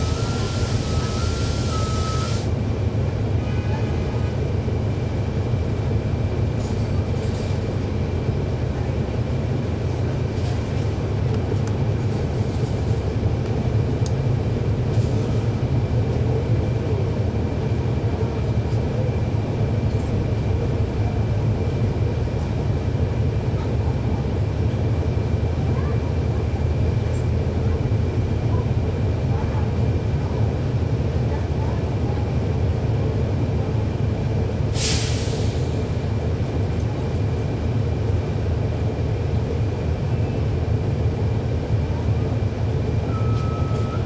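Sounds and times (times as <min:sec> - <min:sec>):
bus diesel engine rumble: 0:00.0 - 0:44.0.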